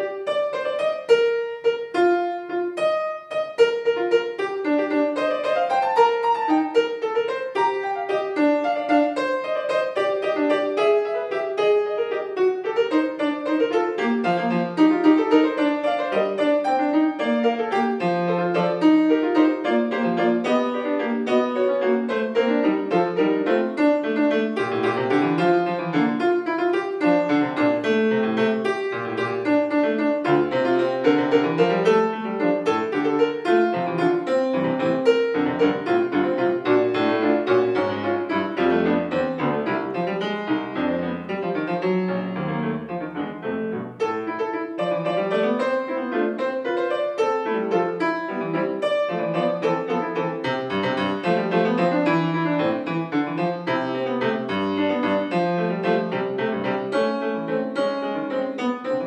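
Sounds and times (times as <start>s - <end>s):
fast classical piano playing: 0.0s - 59.0s.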